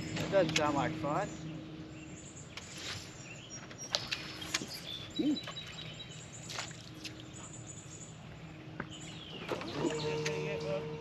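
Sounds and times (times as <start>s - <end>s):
birds calling: 0.0s - 11.0s
steady outdoor background: 0.0s - 11.0s.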